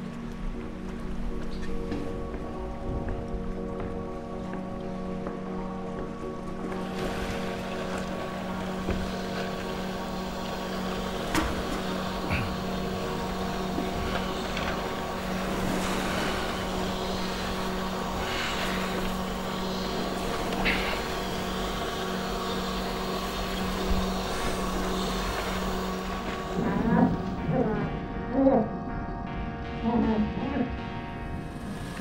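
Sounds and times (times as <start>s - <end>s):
air compressor droning hum: 0.0s - 32.0s.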